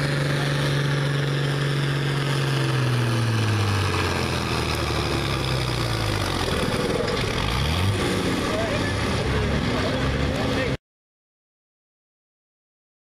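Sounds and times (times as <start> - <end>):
tractor diesel engine running hard: 0.0 - 10.8.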